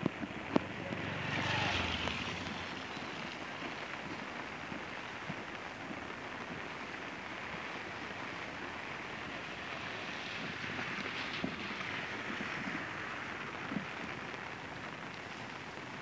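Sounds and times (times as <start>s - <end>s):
rain on wet pavement: 0.0s - 16.0s.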